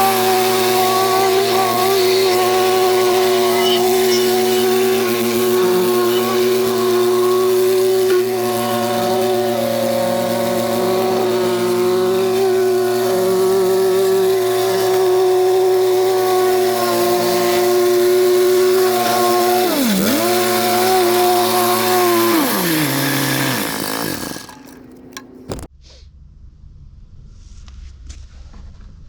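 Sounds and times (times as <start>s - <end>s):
gas-powered saw running: 0.0s - 25.7s.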